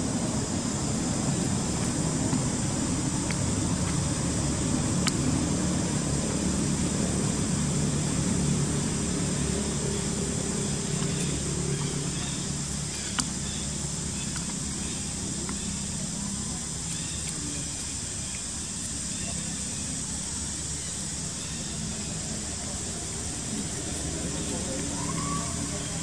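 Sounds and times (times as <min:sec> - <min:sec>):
low hum: 0:00.0 - 0:26.0
outdoor background hiss: 0:00.0 - 0:26.0.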